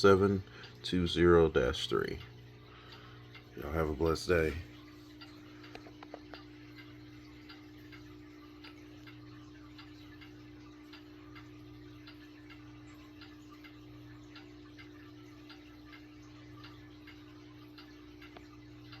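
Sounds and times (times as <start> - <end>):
fan ticking: 0.0 - 19.0.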